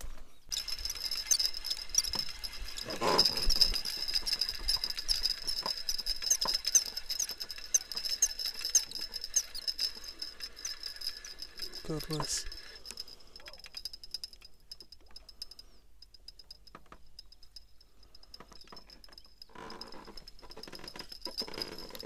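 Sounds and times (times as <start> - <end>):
fishing reel whining and ticking: 0.5 - 22.0.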